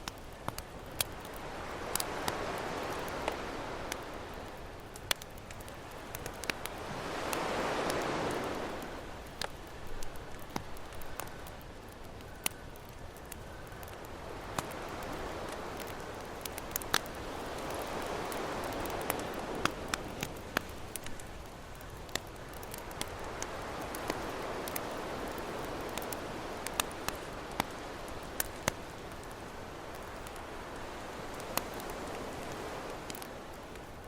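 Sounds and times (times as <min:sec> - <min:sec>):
campfire crackling and popping: 0:00.0 - 0:34.0
ocean waves: 0:00.9 - 0:11.9, 0:13.8 - 0:34.0.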